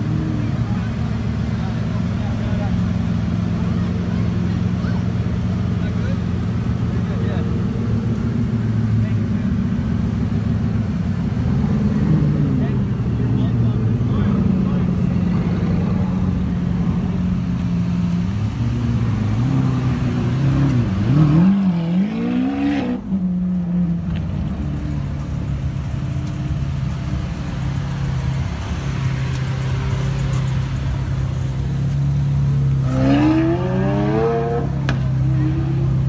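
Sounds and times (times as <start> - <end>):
car engines revving: 0.0 - 36.0.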